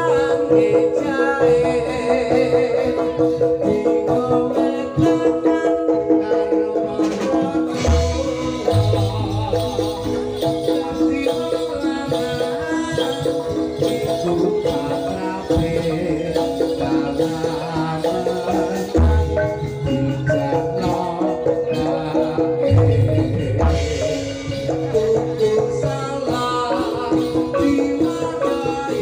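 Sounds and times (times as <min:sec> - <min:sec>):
gamelan ensemble playing: 0:00.0 - 0:29.0.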